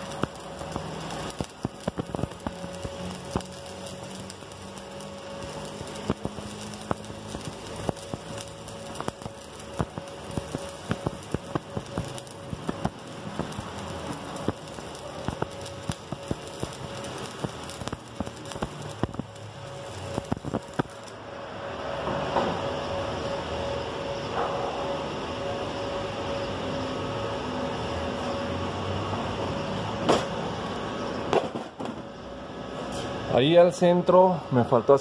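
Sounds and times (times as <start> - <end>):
arc welding crackling hiss: 0.0 - 35.0.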